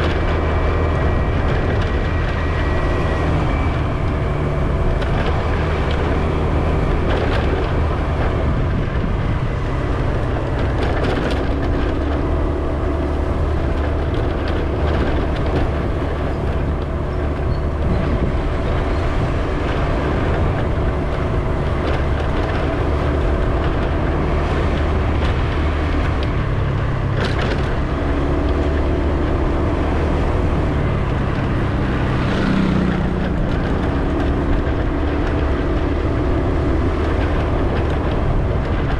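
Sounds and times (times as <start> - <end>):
vehicle engine and tyre rumble: 0.0 - 38.9.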